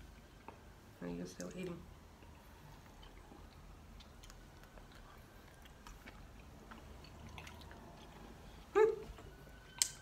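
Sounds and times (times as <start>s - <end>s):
chewing soft fruit lolly: 1.5s - 10.0s.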